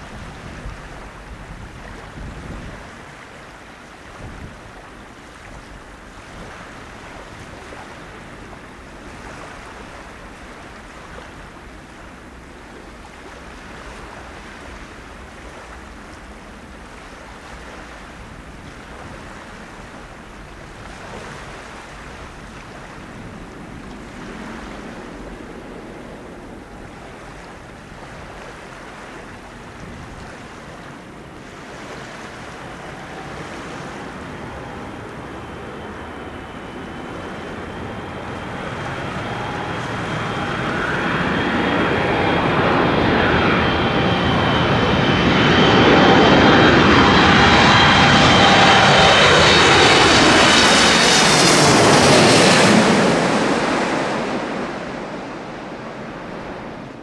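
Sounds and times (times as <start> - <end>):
distant jet engines rumbling: 0.0 - 57.0
wind on microphone: 0.0 - 57.0.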